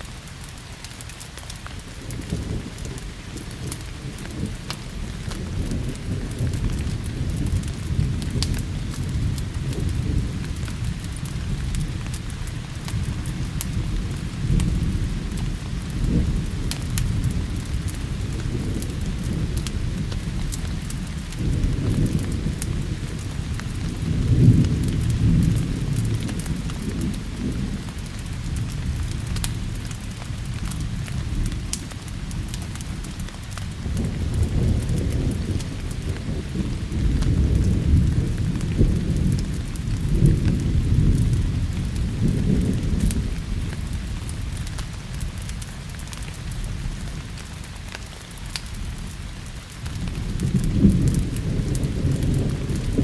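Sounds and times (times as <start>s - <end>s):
steady rain: 0.0s - 53.0s
thunder rumbling: 1.6s - 47.5s, 48.1s - 53.0s.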